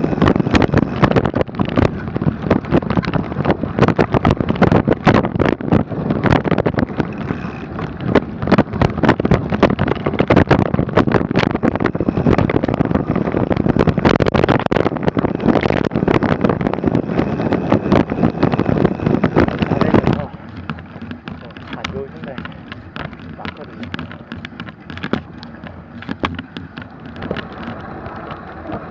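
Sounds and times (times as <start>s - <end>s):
bike knocking and rattling: 0.0s - 28.9s
wind on microphone: 0.0s - 28.9s.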